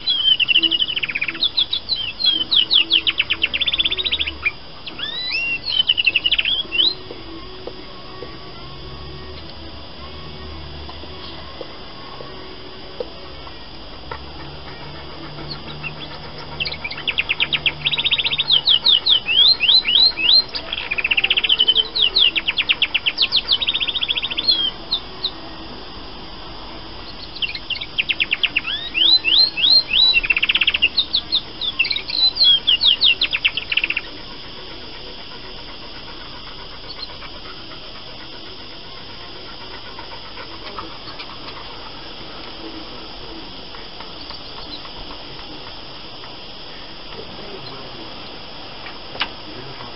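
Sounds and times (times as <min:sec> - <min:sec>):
canary singing trills: 0:00.0 - 0:48.0.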